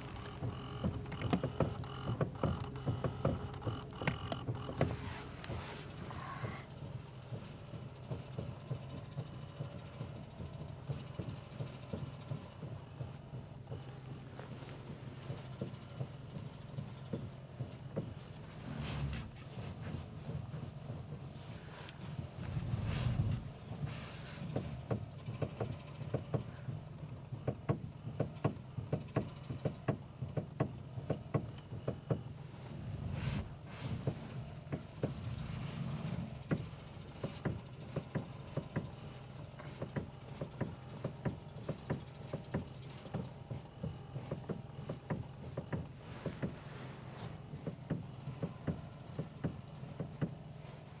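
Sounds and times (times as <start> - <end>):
steady low hum: 0.0 - 25.7, 32.2 - 49.4
steering rack knocking: 0.0 - 26.7, 27.3 - 51.0.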